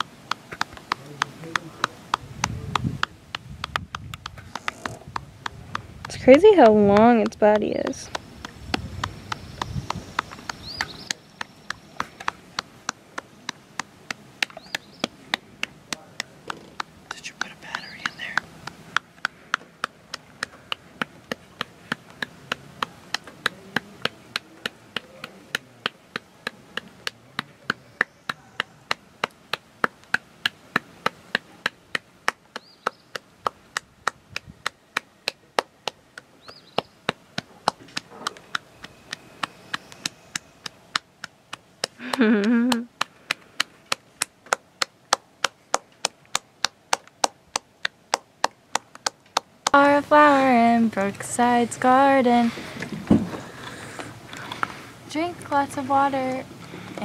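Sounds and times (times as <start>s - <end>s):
metronome-like clicking ticks: 0.0s - 49.9s.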